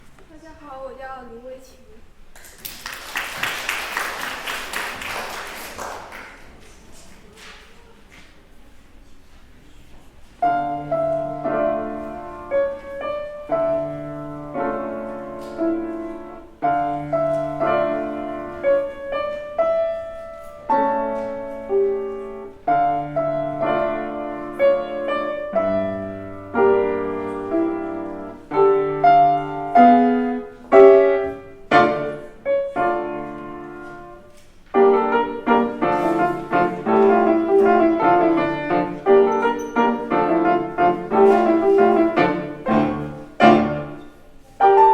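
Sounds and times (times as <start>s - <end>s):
slow piano piece: 3.0s - 44.9s.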